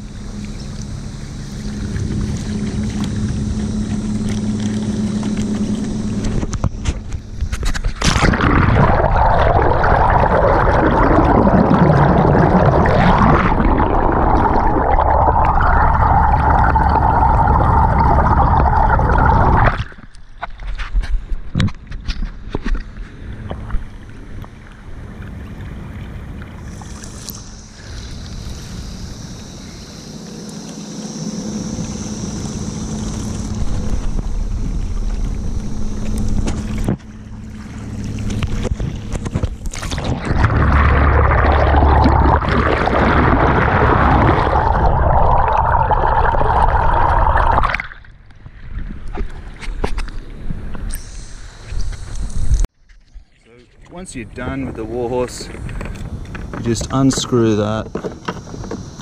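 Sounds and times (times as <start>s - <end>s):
electric motor hum and whine: 0.0s - 52.6s, 54.0s - 59.0s
water noise: 0.0s - 59.0s.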